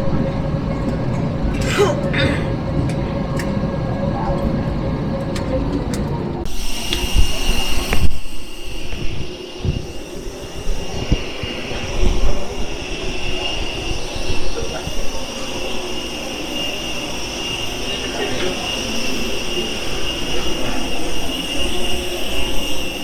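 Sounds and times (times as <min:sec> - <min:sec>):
jet engines running: 0:00.0 - 0:23.0.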